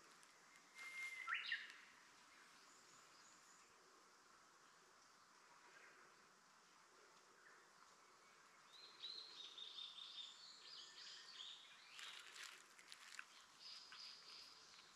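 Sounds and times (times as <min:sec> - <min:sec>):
faint bird song: 0:00.0 - 0:14.9.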